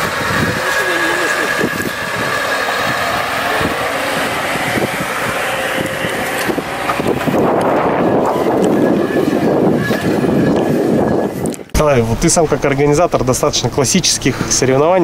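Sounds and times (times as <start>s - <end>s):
car engine running: 0.0s - 15.0s
mechanical noise: 0.0s - 15.0s.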